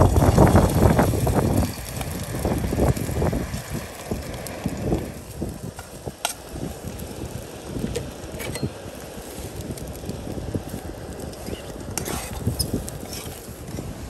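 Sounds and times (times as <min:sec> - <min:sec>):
fish roe sizzling in hot oil: 0:00.0 - 0:14.0
wind buffeting microphone: 0:00.0 - 0:14.0.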